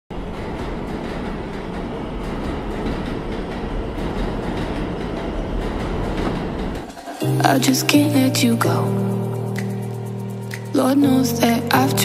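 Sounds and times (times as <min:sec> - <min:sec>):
subway train rumbling: 0:00.1 - 0:12.0.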